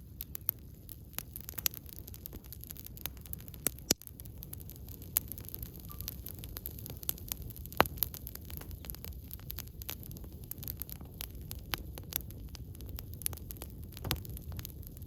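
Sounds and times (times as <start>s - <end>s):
campfire crackling: 0.0s - 15.0s
sharp pop of burning wood: 0.2s - 15.0s.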